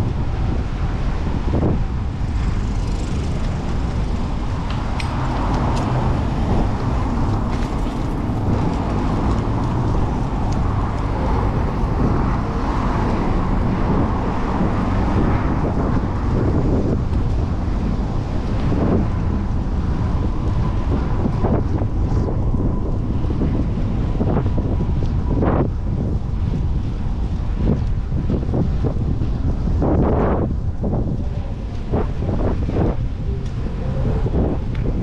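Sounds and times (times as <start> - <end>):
city traffic noise: 0.0 - 35.0
wind buffeting microphone: 0.0 - 35.0.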